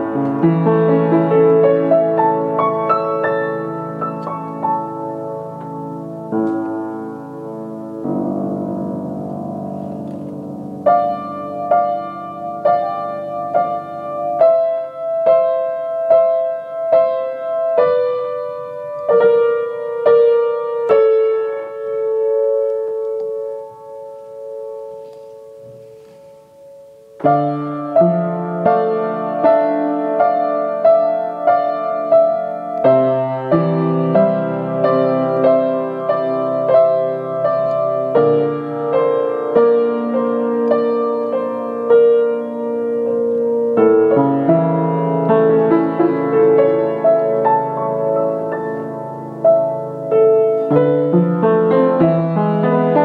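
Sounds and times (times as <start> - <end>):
piano playing broken chords: 0.0 - 53.0.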